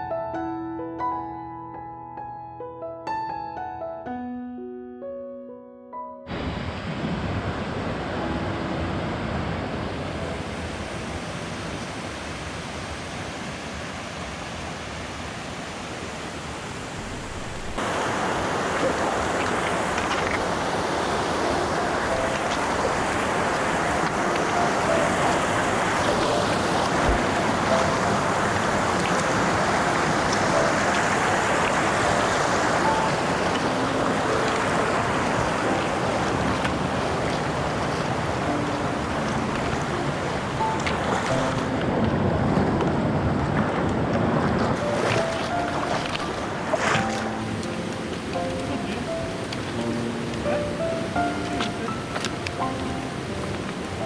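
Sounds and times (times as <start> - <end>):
mountain stream rushing: 6.3 - 54.0.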